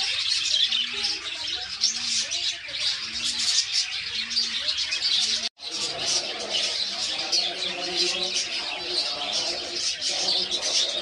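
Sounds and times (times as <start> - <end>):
cage birds chirping: 0.0 - 11.0.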